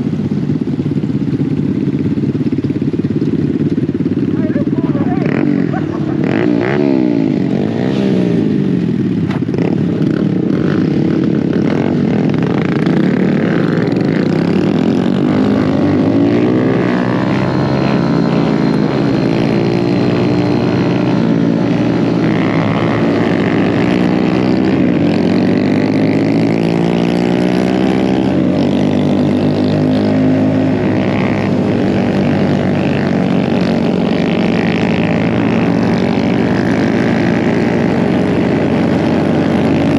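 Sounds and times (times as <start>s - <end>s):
mini bike engines: 0.0s - 39.9s.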